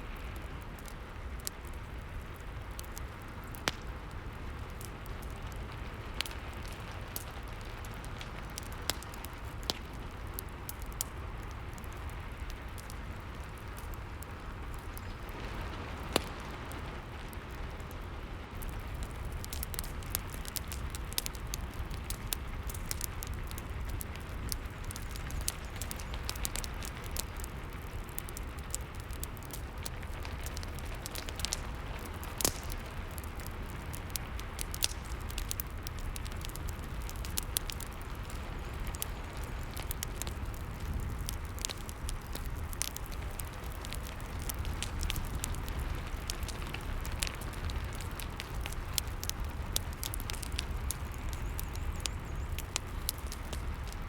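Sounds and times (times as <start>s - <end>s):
rain hiss and rumble: 0.0s - 54.0s
wood fire crackling and popping: 0.0s - 54.0s.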